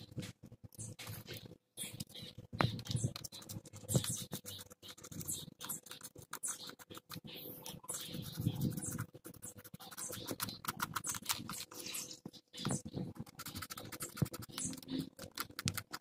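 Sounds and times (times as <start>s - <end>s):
abrasive paper scratching metal: 0.0s - 16.0s.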